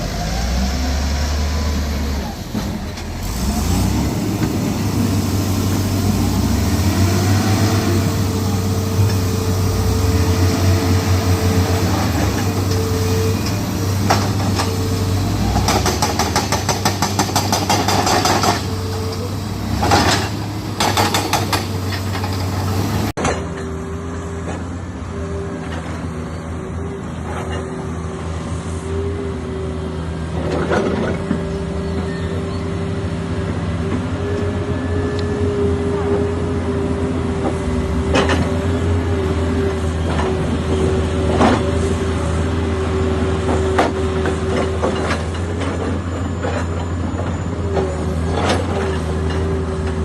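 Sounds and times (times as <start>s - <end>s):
heavy diesel engines running: 0.0s - 50.0s.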